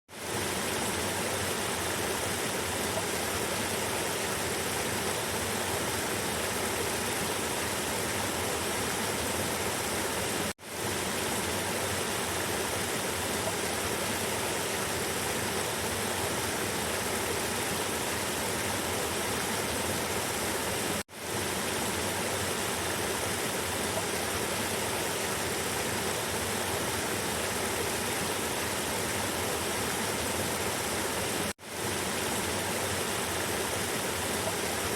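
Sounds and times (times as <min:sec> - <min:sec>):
river water flowing: 0:00.1 - 0:34.9.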